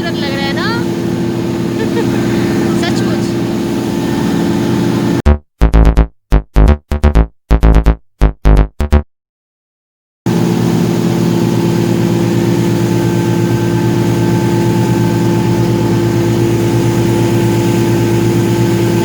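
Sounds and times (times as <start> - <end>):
boat engine running: 0.0 - 9.0, 10.3 - 19.0.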